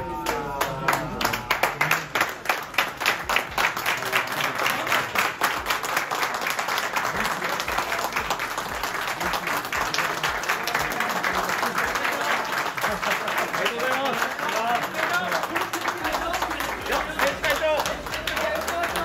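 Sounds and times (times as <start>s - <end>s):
crowd applauding: 0.0s - 19.0s.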